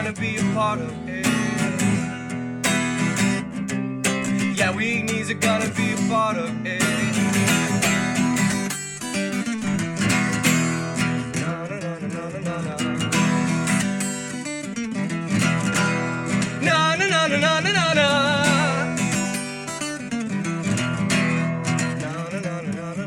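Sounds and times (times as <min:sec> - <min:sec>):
wordless singing with vibrato: 0:00.0 - 0:20.6, 0:21.2 - 0:23.0
acoustic guitar strumming: 0:00.0 - 0:23.0.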